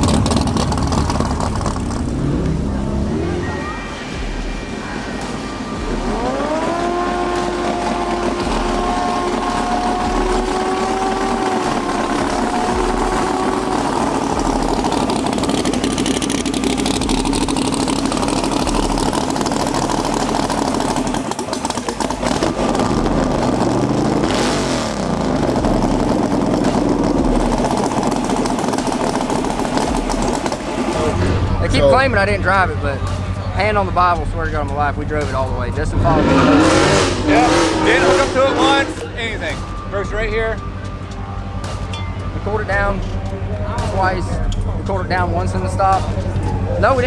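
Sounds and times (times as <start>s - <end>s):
drag car engine revving: 0.0s - 40.7s.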